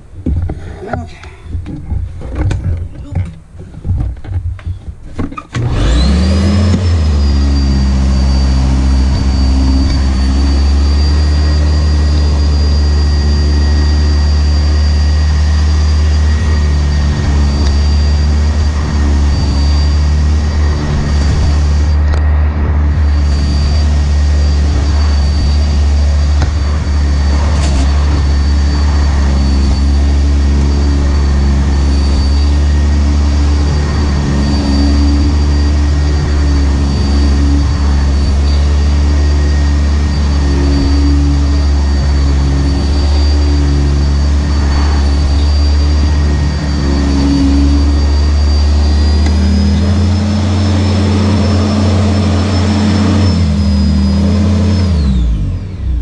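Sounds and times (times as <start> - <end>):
vacuum cleaner running: 5.4 - 56.0.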